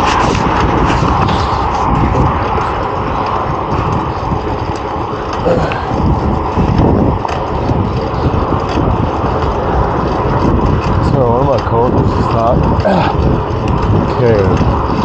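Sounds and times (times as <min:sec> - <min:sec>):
bicycle tyres rolling on pavement: 0:00.0 - 0:15.0
wind buffeting microphone: 0:00.0 - 0:15.0.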